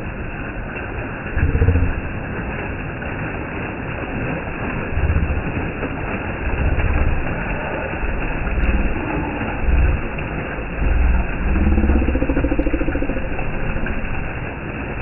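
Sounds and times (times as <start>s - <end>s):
low rumbles: 0.0s - 15.0s
waterfall rushing: 0.0s - 15.0s.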